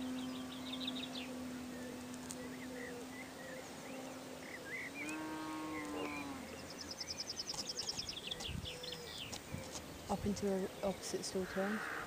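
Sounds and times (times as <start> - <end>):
birds chirping: 0.0 - 12.0
faint steady hum: 0.0 - 12.0.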